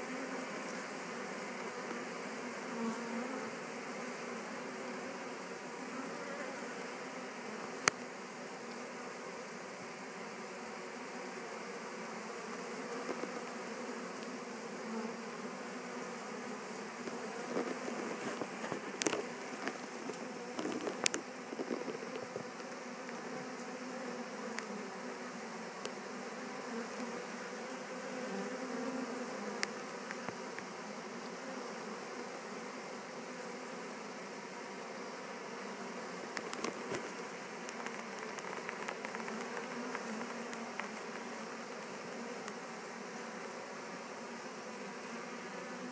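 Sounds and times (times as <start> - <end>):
bee swarm buzzing: 0.0 - 45.9.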